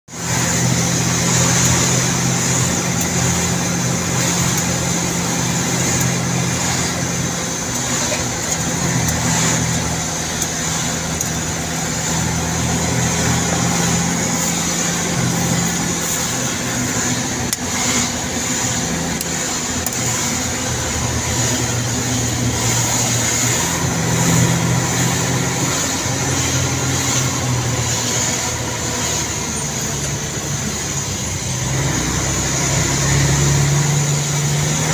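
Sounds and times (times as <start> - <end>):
large vehicle engine droning: 0.0 - 34.9
road noise: 0.0 - 34.9.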